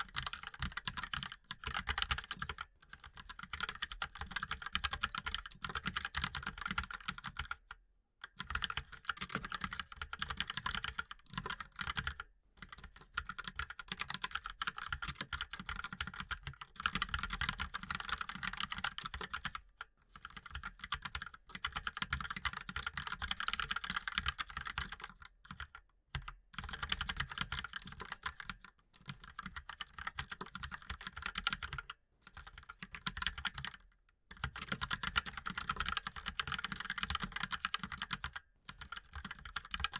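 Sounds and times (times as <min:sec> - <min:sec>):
mechanical keyboard typing: 0:00.0 - 0:07.6, 0:08.2 - 0:19.6, 0:20.2 - 0:39.9.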